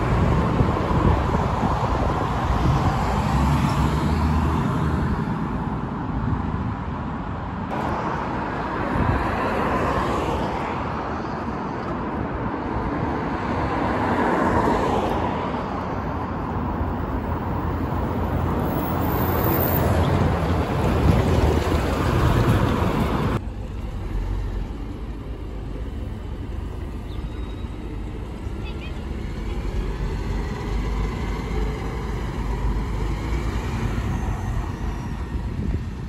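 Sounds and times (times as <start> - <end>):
diesel bus engine: 0.0 - 9.6, 15.2 - 36.0
road traffic: 0.0 - 36.0.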